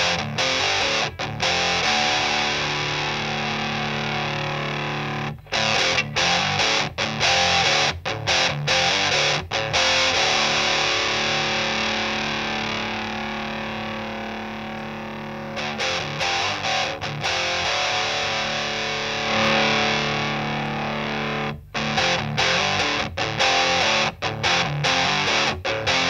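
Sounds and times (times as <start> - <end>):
distorted electric guitar chords: 0.0 - 26.0.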